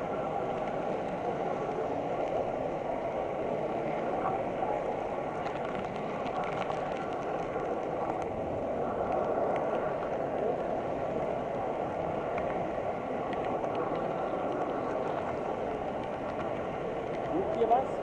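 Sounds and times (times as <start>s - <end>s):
faint steady whine: 0.0s - 18.0s
faint clicks: 0.3s - 2.5s, 3.6s - 18.0s.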